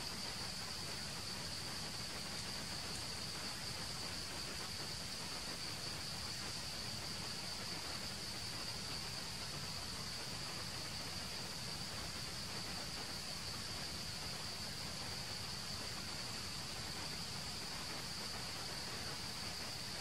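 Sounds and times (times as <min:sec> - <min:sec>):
background hiss: 0:00.0 - 0:20.0.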